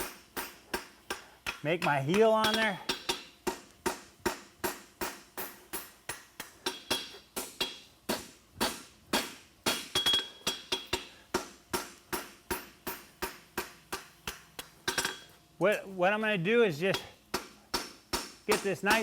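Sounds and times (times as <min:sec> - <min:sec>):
hammer striking metal on anvil: 0:00.0 - 0:15.4, 0:16.9 - 0:19.0.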